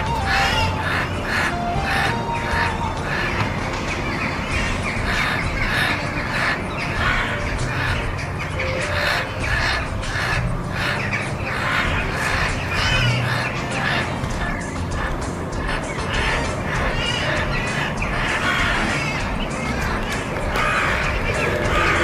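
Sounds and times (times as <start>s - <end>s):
crows cawing harshly: 0.0s - 22.0s.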